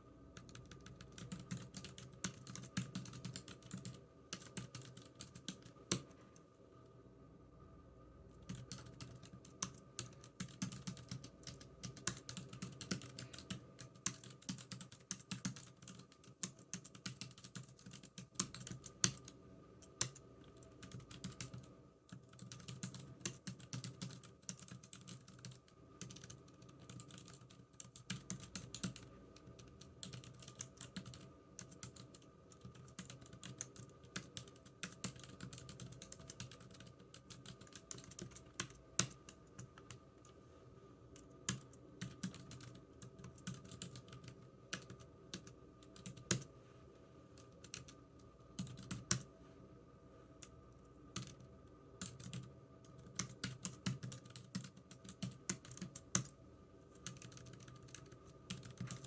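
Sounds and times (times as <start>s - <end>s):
faint low hum: 0.0s - 59.0s
computer keyboard typing: 0.3s - 6.1s, 8.4s - 40.0s, 41.2s - 46.5s, 47.4s - 49.3s, 51.1s - 56.4s, 57.0s - 59.0s.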